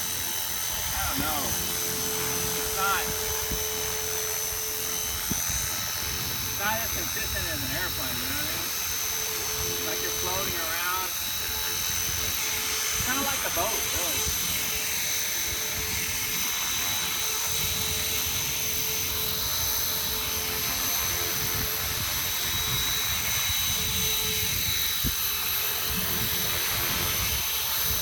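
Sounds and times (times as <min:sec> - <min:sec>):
model helicopter motor whine: 0:00.0 - 0:28.0
rotor rushing: 0:00.0 - 0:28.0.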